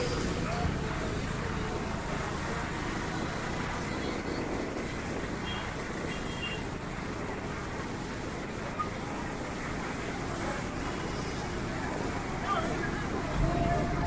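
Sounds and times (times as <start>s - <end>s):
traffic rumble with road hiss: 0.0s - 14.0s.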